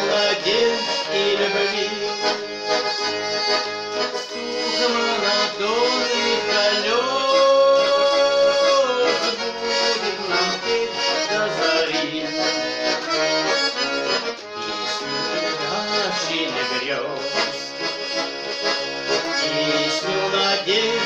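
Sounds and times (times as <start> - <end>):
accordion playing melody: 0.0 - 21.0.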